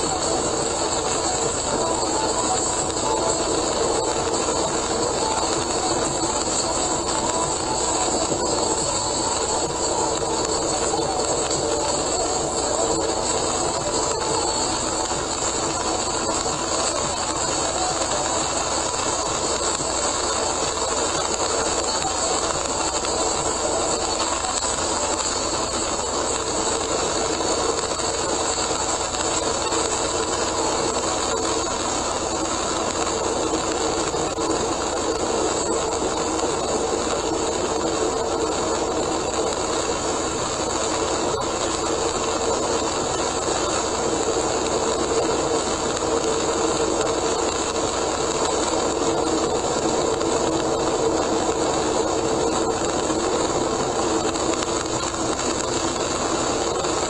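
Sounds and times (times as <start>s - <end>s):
heavy rain: 0.0s - 57.0s
tyres hissing on wet road: 0.0s - 57.0s.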